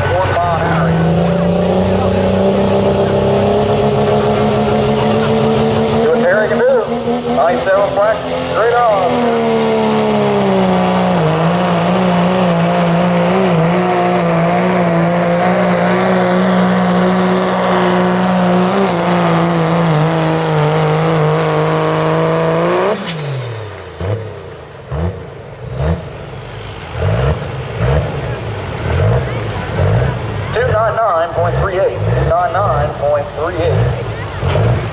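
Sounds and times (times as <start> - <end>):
engine short revs: 0.0 - 34.9
truck engine at high revs: 0.0 - 34.9.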